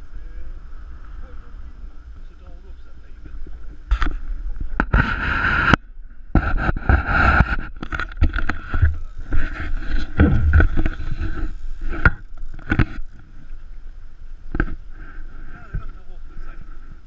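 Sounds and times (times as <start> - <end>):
thin high whine: 0.0 - 17.0.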